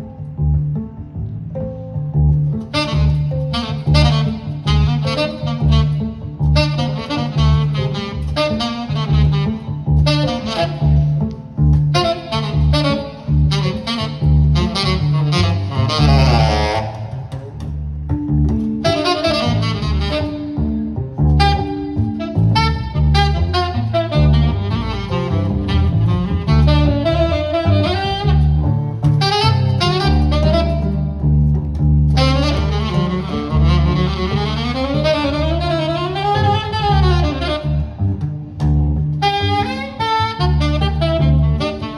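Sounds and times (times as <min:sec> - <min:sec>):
double bass: 0:00.0 - 0:41.9
saxophone improvising: 0:02.6 - 0:17.6, 0:18.6 - 0:41.9.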